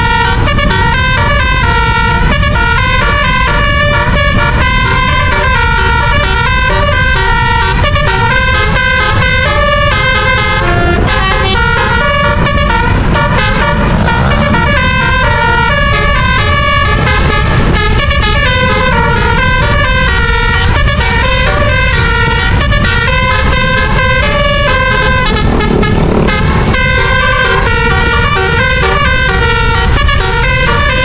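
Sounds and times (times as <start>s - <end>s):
musical air horns melody: 0.0s - 31.0s
road and engine noise: 0.0s - 31.0s.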